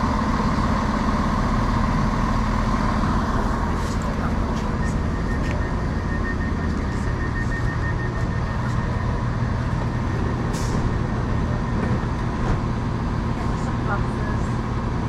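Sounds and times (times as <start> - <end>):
train engines droning: 0.0 - 15.0.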